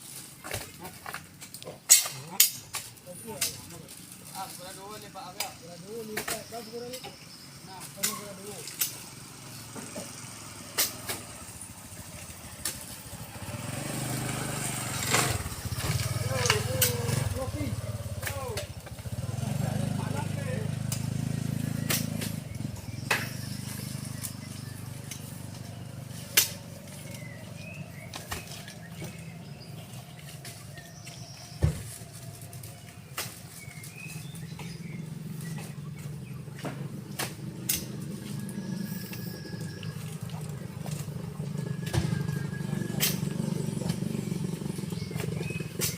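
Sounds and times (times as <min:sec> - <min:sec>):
small vehicle engine running: 0:03.2 - 0:45.9.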